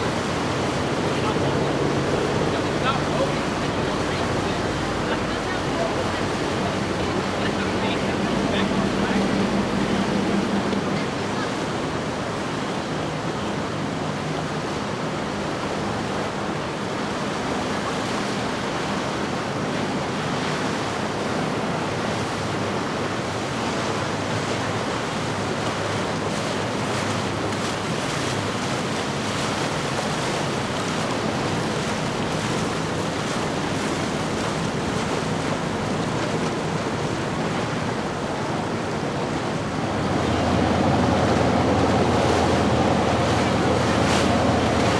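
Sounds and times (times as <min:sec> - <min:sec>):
faint motor boat engine hum: 0:00.0 - 0:44.9
wash of open water: 0:00.0 - 0:44.9
wind rushing over microphone: 0:00.0 - 0:44.9.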